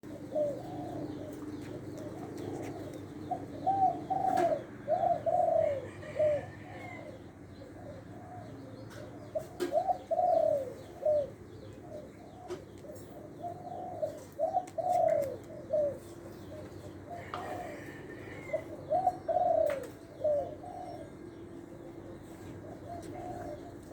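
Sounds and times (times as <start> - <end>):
dove cooing: 0.0 - 23.9.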